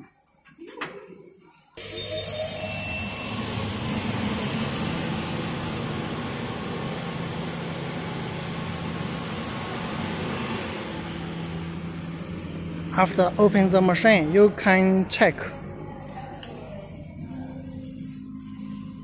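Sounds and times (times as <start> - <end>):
fan noise rushing: 2.4 - 19.0
low hum: 2.7 - 19.0.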